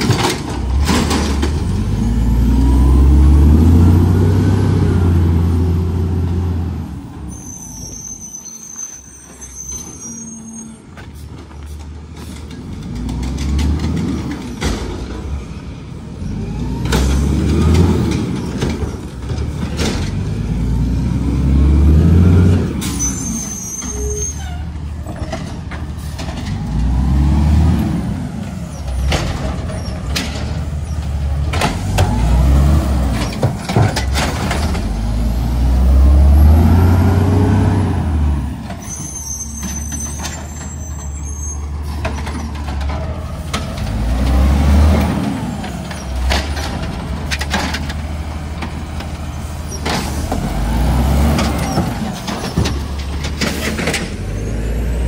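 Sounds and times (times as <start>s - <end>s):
diesel engine revving: 0.0s - 7.5s, 9.9s - 23.7s, 24.6s - 55.0s.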